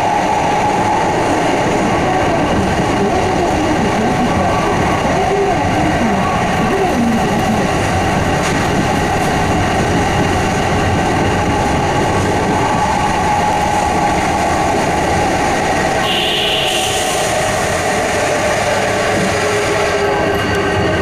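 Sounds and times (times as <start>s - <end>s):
subway train wheels rumbling: 0.0s - 21.0s.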